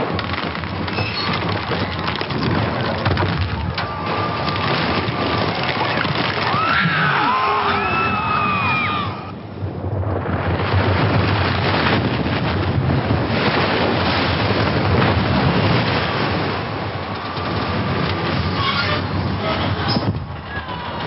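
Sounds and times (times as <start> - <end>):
sea and wind rushing: 0.0 - 21.0.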